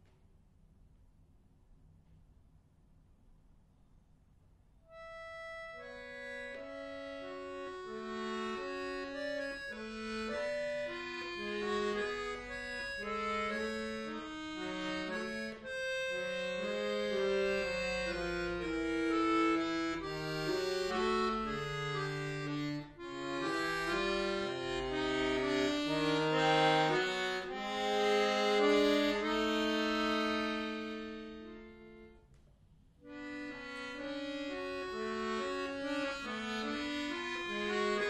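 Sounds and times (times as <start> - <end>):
button accordion melody: 4.9 - 32.3, 33.0 - 38.0.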